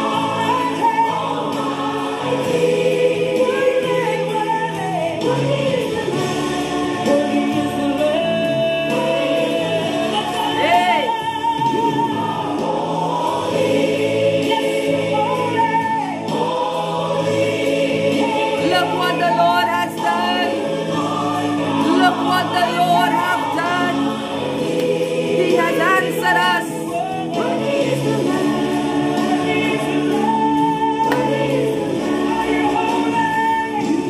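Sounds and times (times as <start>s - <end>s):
choir singing gospel music: 0.0s - 34.0s.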